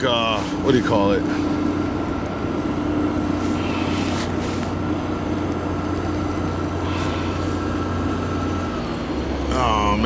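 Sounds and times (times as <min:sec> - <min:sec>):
motor hum with high whine: 0:00.0 - 0:10.0.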